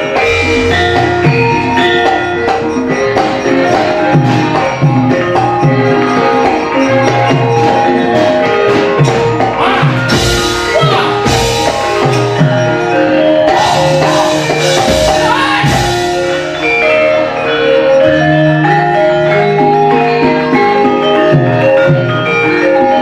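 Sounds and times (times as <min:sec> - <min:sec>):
ringing metallophone notes: 0:00.0 - 0:23.0.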